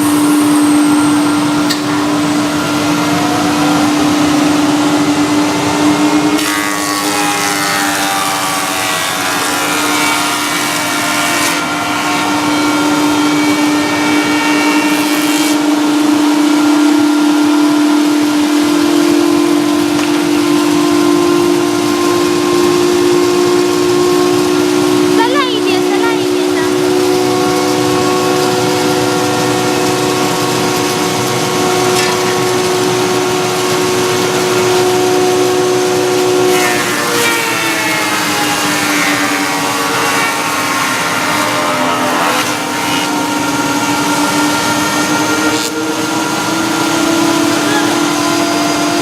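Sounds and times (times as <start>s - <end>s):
planer thicknesser humming: 0.0s - 49.0s.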